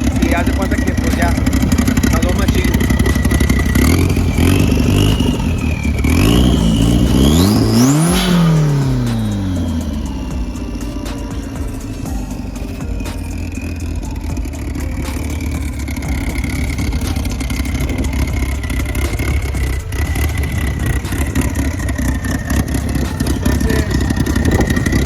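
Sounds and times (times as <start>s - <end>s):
high turbo whine: 0.0s - 25.0s
turbocharged car engine running: 0.0s - 25.0s.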